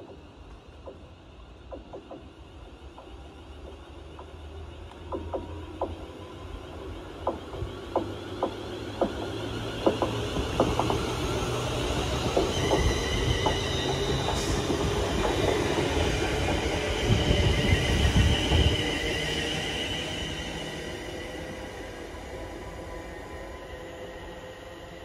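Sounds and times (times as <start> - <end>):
train wheels clicking over joints: 0.0 - 23.4
train rumble: 0.0 - 25.0.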